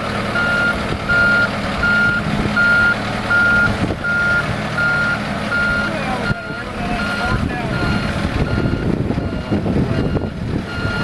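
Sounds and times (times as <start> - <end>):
engine running: 0.0 - 11.0
alarm beeping: 0.4 - 11.0.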